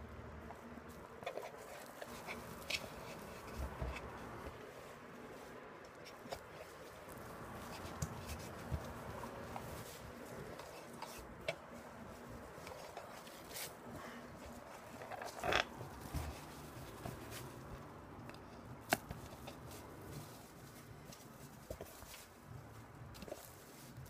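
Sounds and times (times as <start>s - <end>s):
rustling scrape: 0.5s - 17.8s, 19.1s - 24.0s.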